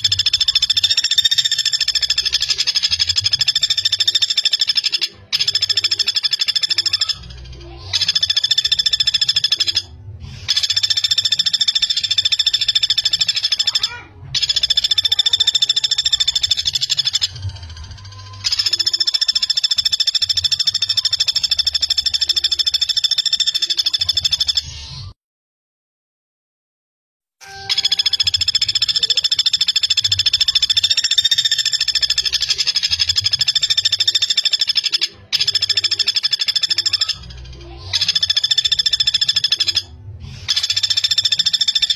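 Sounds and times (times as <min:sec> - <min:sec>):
woodpecker rattling trills: 0:00.0 - 0:09.9, 0:10.5 - 0:24.7, 0:27.4 - 0:39.9, 0:40.5 - 0:41.9.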